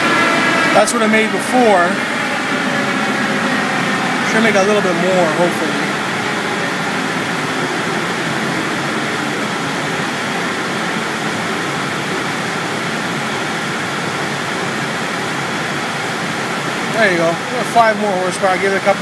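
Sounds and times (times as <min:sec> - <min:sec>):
rushing air: 0:00.0 - 0:19.0.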